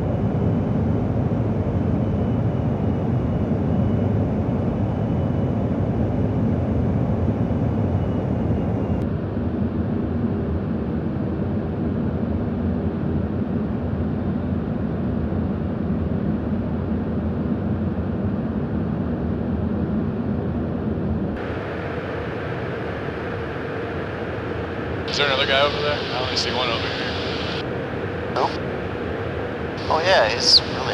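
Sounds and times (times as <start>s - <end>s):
jet engines droning: 0.0s - 30.9s.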